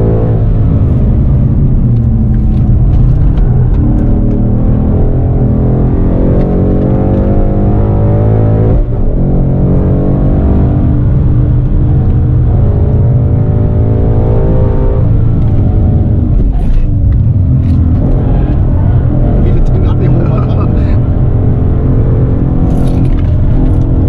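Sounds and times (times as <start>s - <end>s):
car engine revving under full throttle: 0.0s - 24.0s.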